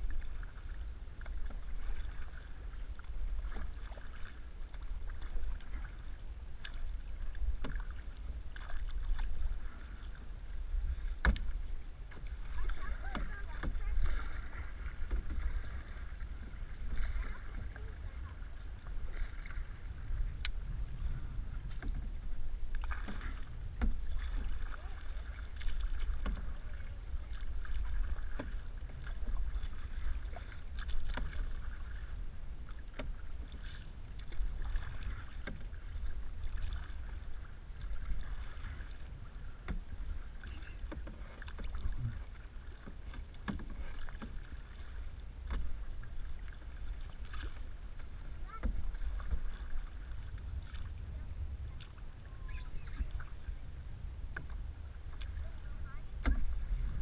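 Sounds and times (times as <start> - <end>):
canoe paddles splashing in water: 0.0 - 57.0
wind rumble on microphone: 0.0 - 57.0.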